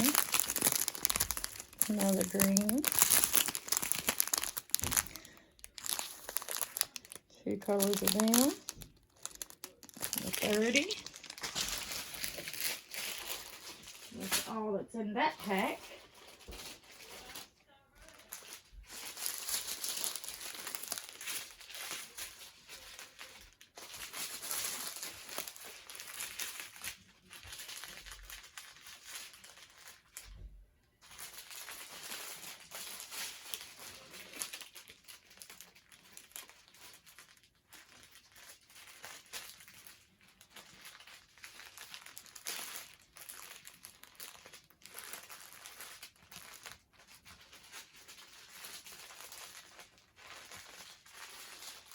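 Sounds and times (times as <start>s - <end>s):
plastic packets crinkling: 0.0s - 51.9s.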